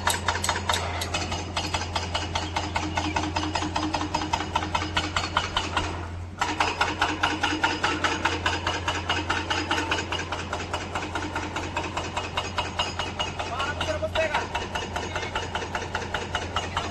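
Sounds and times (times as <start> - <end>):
diesel engine clattering: 0.0 - 16.9.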